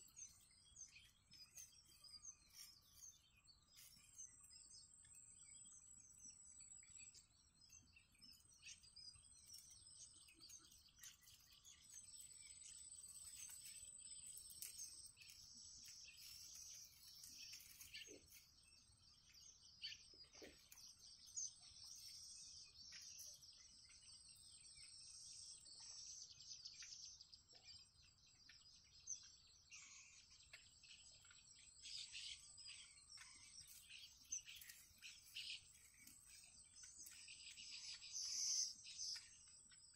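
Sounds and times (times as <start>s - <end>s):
bird chicks begging chirps: 0.0s - 39.9s.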